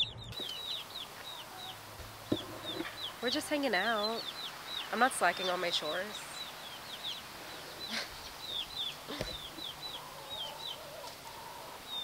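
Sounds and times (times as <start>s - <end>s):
small birds peeping: 0.0s - 12.0s.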